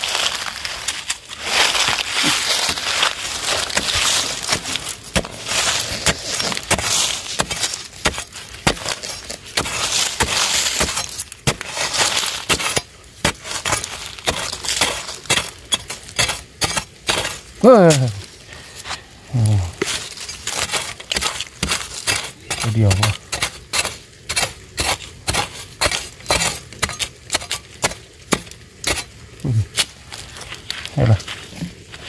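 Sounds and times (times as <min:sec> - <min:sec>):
metal blade chopping into dry soil: 0:01.8 - 0:18.1, 0:19.8 - 0:30.0.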